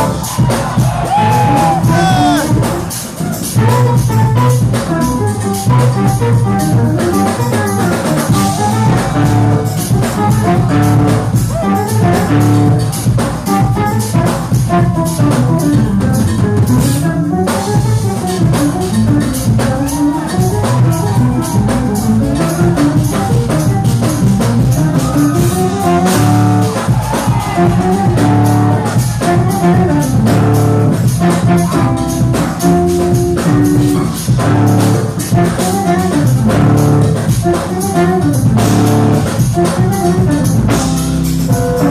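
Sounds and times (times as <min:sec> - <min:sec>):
jazz fusion band playing: 0:00.0 - 0:41.9.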